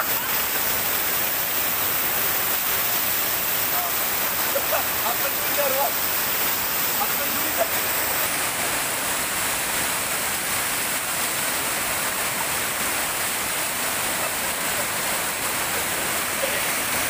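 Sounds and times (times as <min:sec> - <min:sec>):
waterfall pouring over rocks: 0:00.0 - 0:17.0.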